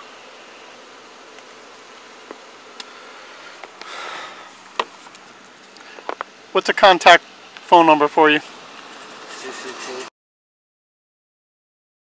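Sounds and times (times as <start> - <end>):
microphone background hiss: 0.0 - 10.1.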